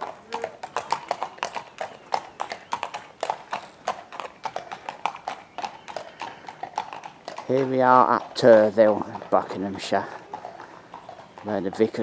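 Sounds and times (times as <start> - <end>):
horse hooves clopping on tarmac: 0.0 - 12.0.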